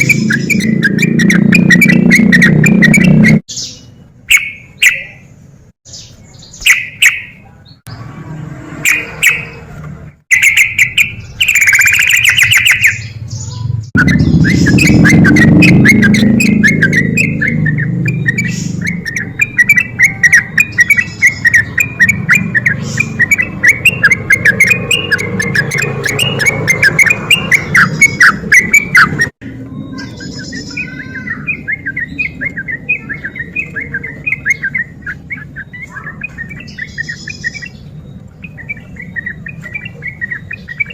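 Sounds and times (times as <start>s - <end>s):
bird chattering song: 0.0s - 8.0s, 8.8s - 40.9s.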